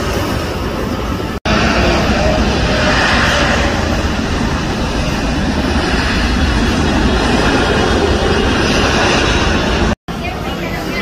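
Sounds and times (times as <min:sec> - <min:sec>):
aircraft engine rumble: 0:00.0 - 0:11.0.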